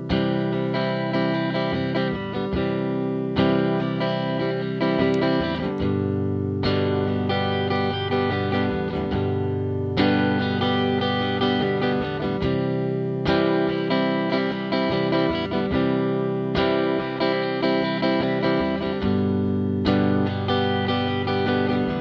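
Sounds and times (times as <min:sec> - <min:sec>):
guitar music: 0:00.0 - 0:22.0.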